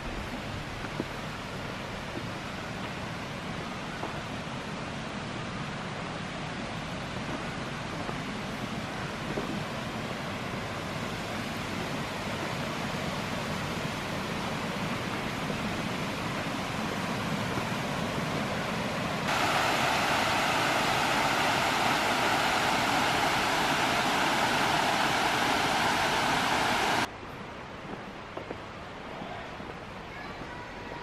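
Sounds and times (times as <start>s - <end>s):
stream rushing over stones: 0.0s - 31.0s.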